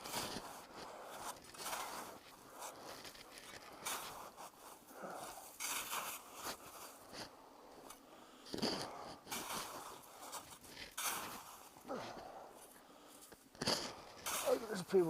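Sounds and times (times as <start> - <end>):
snowshoe steps crunching snow: 0.0 - 15.0.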